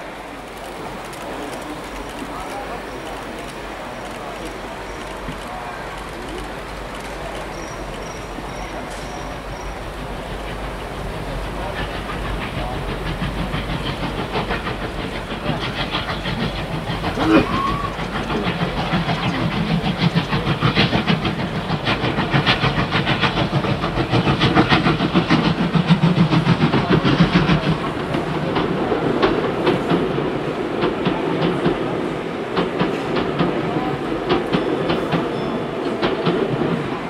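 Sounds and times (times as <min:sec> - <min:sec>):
model train wheels clicking: 0:00.3 - 0:30.2.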